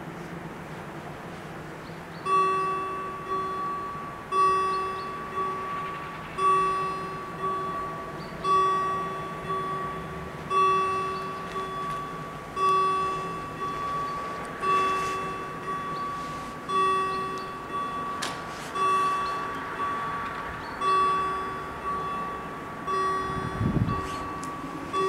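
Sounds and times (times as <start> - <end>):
level crossing warning bells: 0.5 - 25.0.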